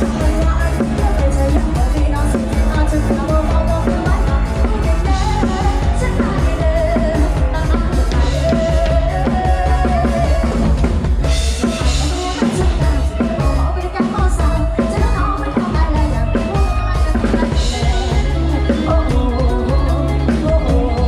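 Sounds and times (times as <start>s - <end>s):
drum kit: 0.0s - 21.0s
heavy bass: 0.0s - 21.0s.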